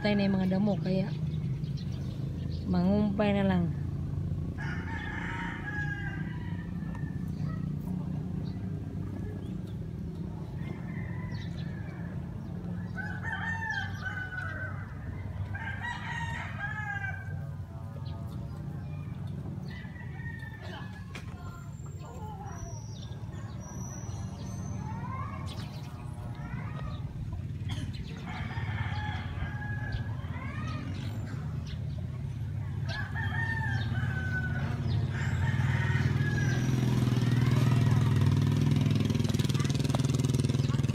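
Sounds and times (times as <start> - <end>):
roosters crowing: 3.6 - 40.9.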